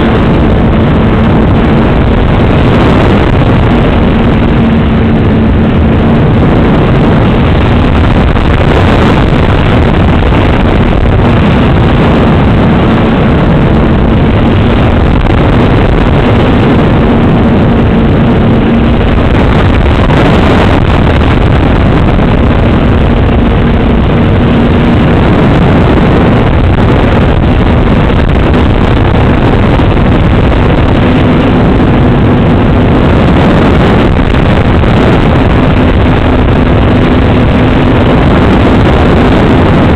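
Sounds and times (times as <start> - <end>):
low hum: 0.0 - 39.9
wind rush: 0.0 - 39.9.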